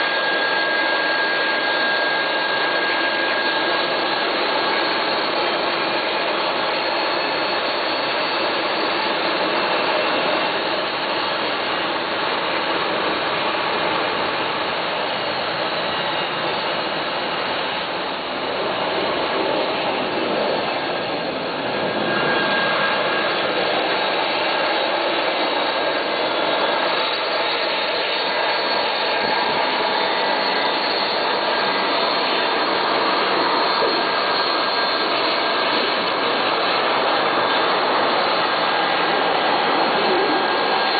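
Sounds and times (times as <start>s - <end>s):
jet engines at taxi power: 0.0s - 40.9s.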